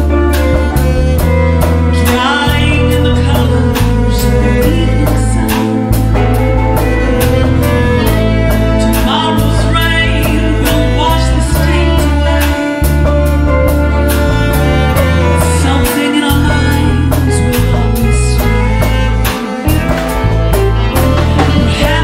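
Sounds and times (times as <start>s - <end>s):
woman singing: 0.0s - 13.3s, 14.8s - 22.0s
bass guitar: 0.0s - 22.0s
drums keeping a steady beat: 0.0s - 22.0s
violin: 0.0s - 22.0s.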